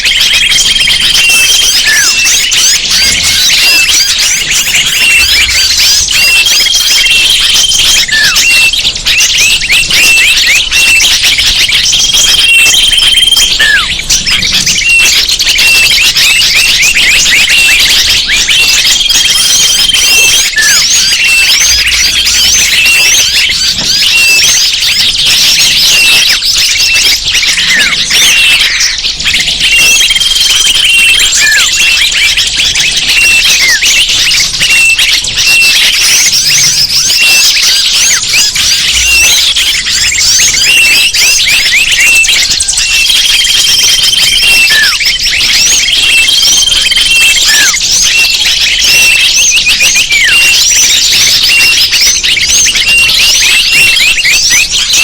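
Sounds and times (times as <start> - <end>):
high bird whistles: 0.0 - 55.0
small birds chirping chorus: 0.0 - 55.0.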